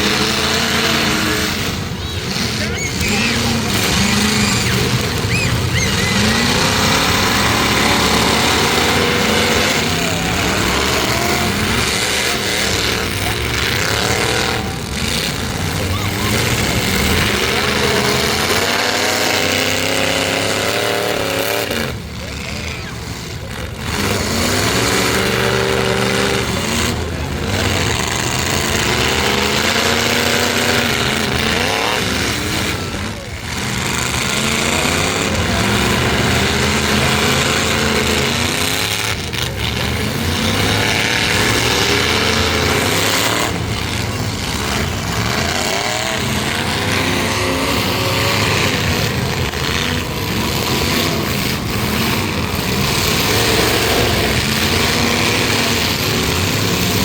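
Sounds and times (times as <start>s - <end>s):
arena noise: 0.0s - 57.0s
truck engines revving: 0.0s - 57.0s.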